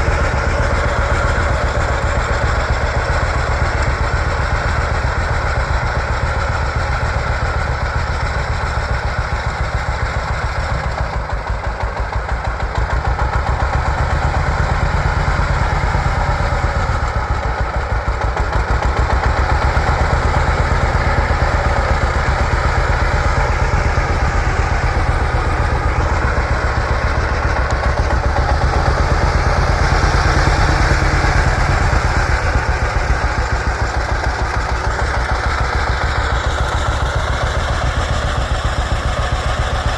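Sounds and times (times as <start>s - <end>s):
tractor engine popping: 0.0s - 39.9s.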